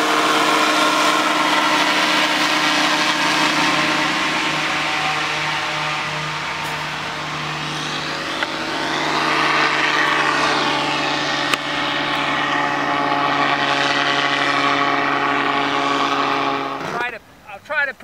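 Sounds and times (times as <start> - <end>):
propeller engine droning: 0.0 - 17.4.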